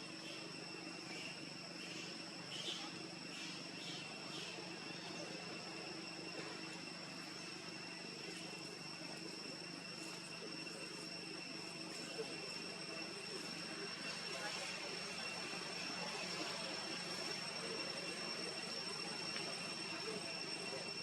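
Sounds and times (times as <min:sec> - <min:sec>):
insect chorus: 0:00.0 - 0:21.0.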